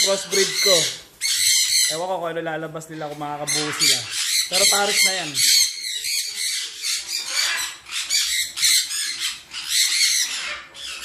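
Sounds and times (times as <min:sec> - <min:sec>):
parrots screeching: 0:00.0 - 0:02.1, 0:02.8 - 0:11.0.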